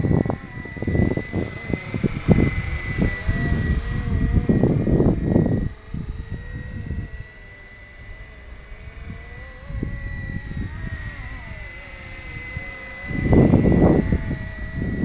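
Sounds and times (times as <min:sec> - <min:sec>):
model helicopter whine and rotor drone: 0:00.0 - 0:15.0
wind rumbling on microphone: 0:00.0 - 0:15.0.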